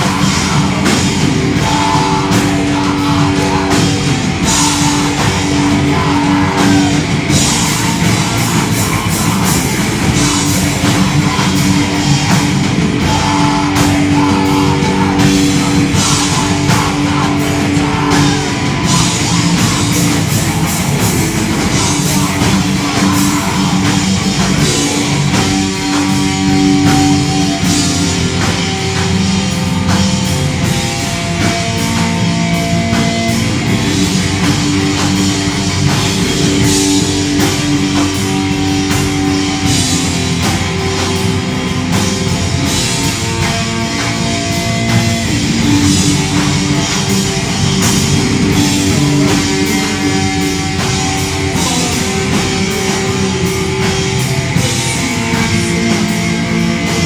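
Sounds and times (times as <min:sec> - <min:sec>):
bass guitar: 0:00.0 - 0:57.0
distorted electric guitars: 0:00.0 - 0:57.0
drum kit with cymbals: 0:00.0 - 0:57.0.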